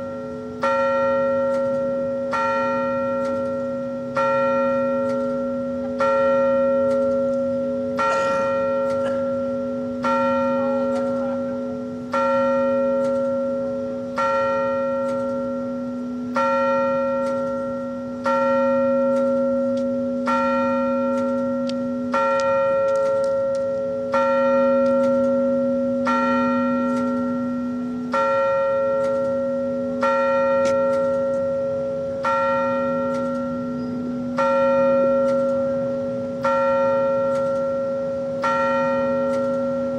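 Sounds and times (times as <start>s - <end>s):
large bell tolling: 0.0s - 39.9s.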